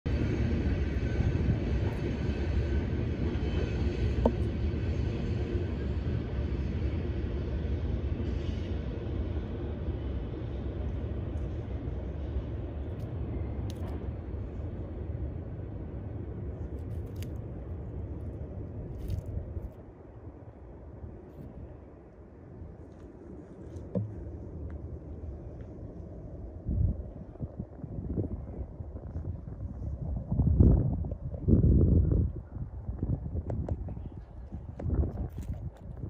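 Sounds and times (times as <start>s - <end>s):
low outdoor rumble: 0.1s - 36.0s.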